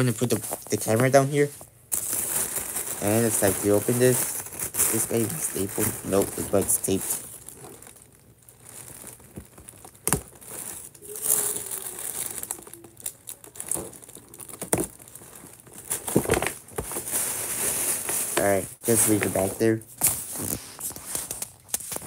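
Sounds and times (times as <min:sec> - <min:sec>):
paper bag crinkling: 0:00.0 - 0:22.0.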